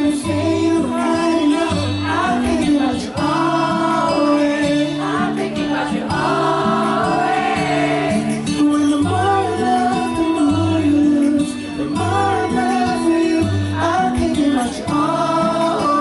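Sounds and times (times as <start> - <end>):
band playing slow r and b song: 0.0 - 16.0
person singing: 0.0 - 16.0.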